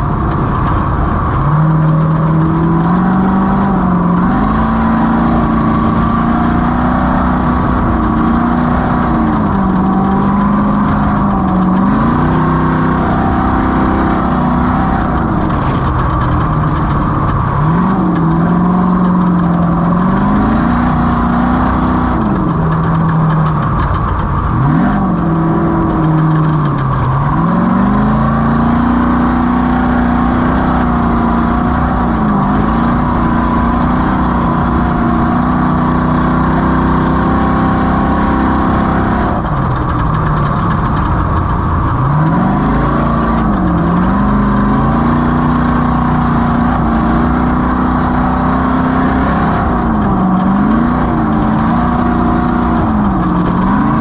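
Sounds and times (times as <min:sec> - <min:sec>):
race vehicle engine revving: 0:00.0 - 0:54.0.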